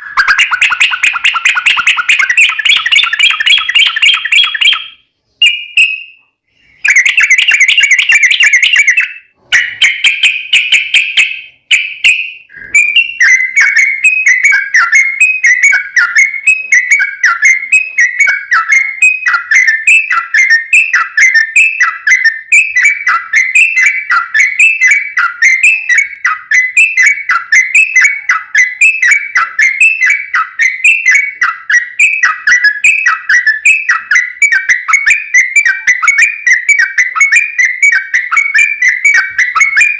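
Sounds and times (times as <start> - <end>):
bird warbling: 0.0 - 6.0, 6.8 - 39.9
repeated whistled bird notes: 0.0 - 39.9.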